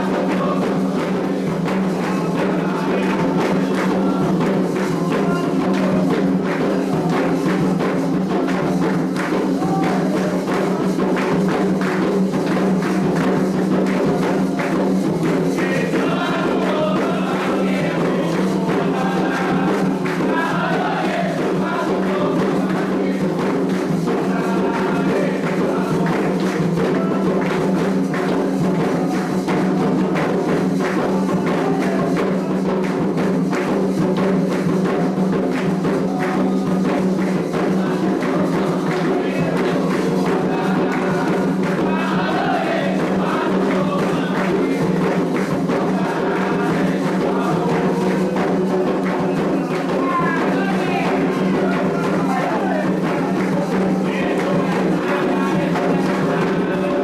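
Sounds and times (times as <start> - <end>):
chanted singing: 0.0 - 57.0
hand drums: 0.0 - 57.0
shaker or bell percussion: 0.0 - 57.0.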